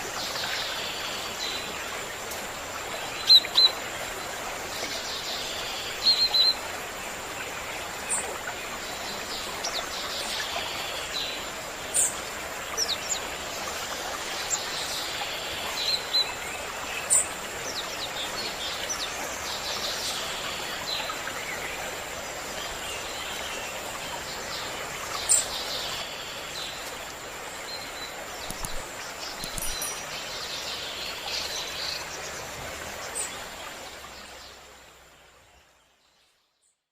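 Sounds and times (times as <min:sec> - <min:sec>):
flowing water rushing: 0:00.0 - 0:36.0.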